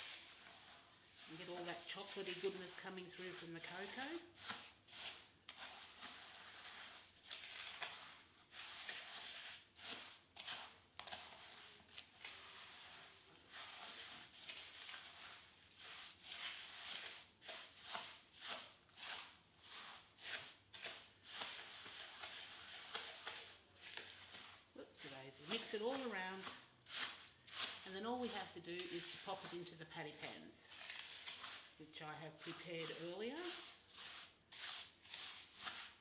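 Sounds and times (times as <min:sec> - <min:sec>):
spoon stirring crisp cereal: 0:00.0 - 0:36.0.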